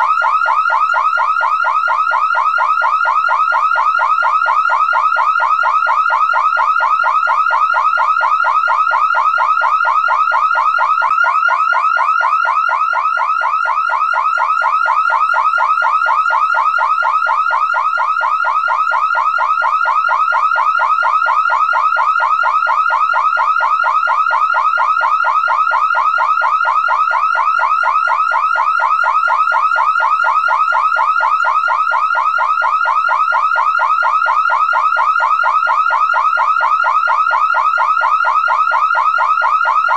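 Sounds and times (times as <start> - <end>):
car alarm siren: 0.0 - 39.9.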